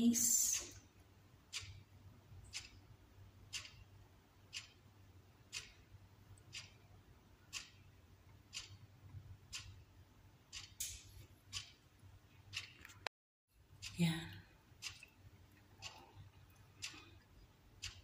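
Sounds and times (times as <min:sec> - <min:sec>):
low steady hum: 0:00.0 - 0:18.0
clock ticking faintly: 0:00.5 - 0:18.0.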